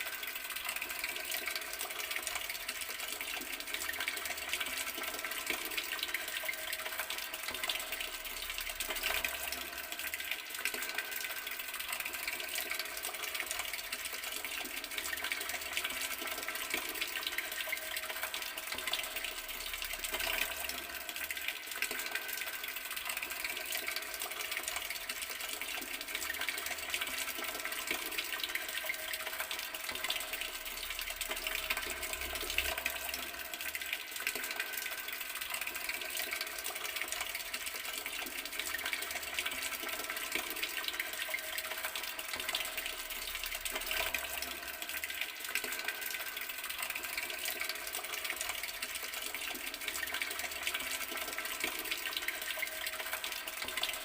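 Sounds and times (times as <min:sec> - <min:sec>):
water running from tap: 0:00.0 - 0:54.0.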